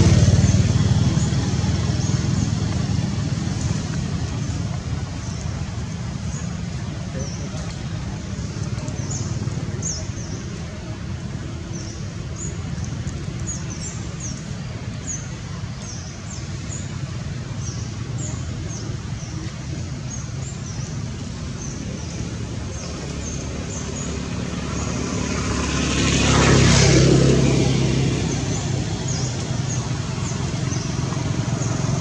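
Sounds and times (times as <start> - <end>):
motor vehicle approaching: 0.0 - 32.0
road traffic rumble: 0.0 - 32.0.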